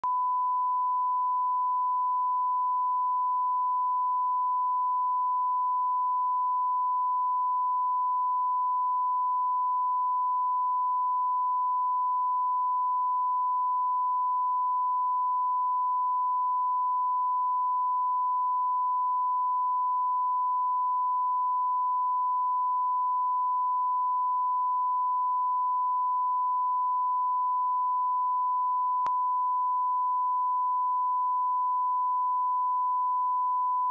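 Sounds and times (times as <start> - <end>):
steady sine-wave test tone: 0.0 - 33.9.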